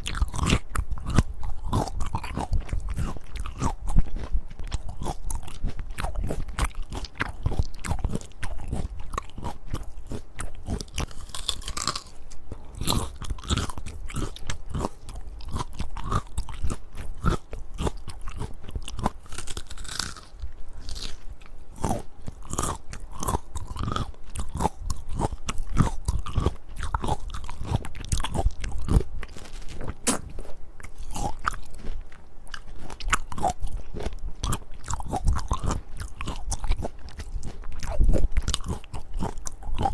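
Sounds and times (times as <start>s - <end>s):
crunchy bites of fruit: 0.0s - 39.9s.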